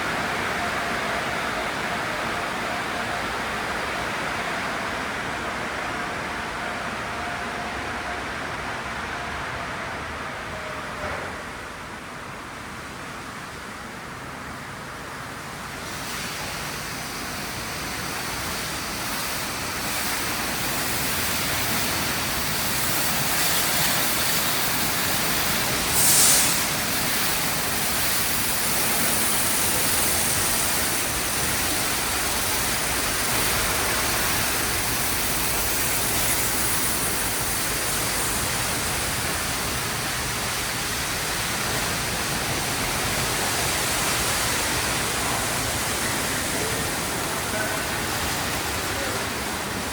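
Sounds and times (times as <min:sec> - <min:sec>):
car wash spraying and blowing: 0:00.0 - 0:07.7, 0:11.2 - 0:49.9.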